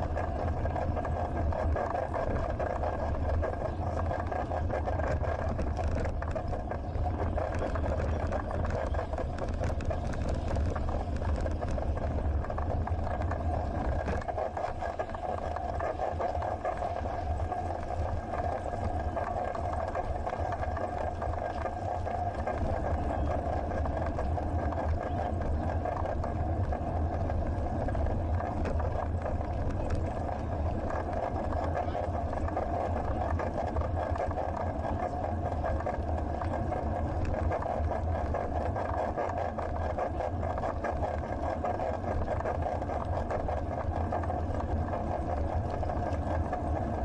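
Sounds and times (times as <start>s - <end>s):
bicycle tyre road noise: 0.0s - 47.0s
wind on camera microphone: 0.0s - 47.0s.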